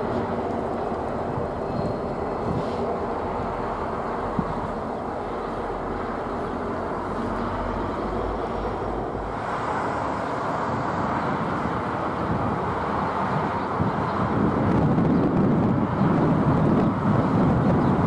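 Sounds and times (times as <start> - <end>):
diesel locomotive engines rumbling: 0.0 - 18.0.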